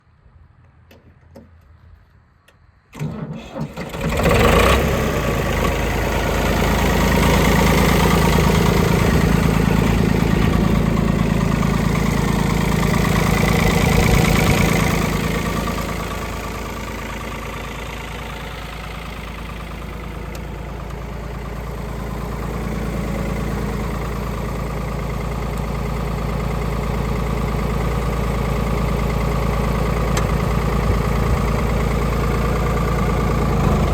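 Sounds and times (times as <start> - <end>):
tractor engine idling: 0.8 - 33.9
tractor engine cranking: 2.9 - 33.9.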